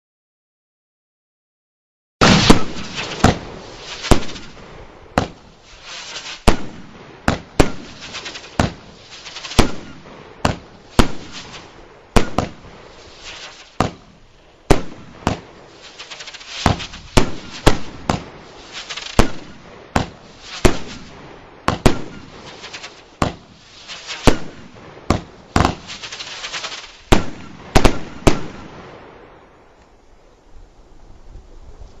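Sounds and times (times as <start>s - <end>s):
firework bangs with crackling: 2.2s - 29.3s.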